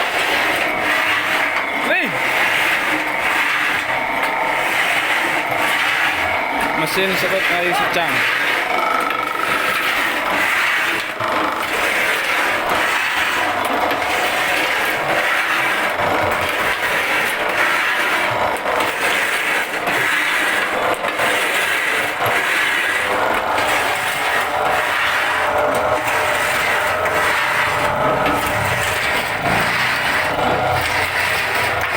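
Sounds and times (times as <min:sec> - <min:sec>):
wood-shaving machine scraping: 0:00.0 - 0:31.9.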